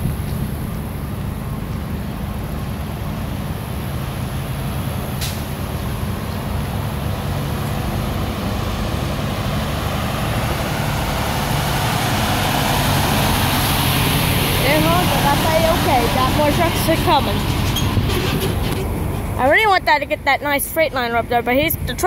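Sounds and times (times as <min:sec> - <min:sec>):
diesel truck engine drone: 0:00.0 - 0:22.0.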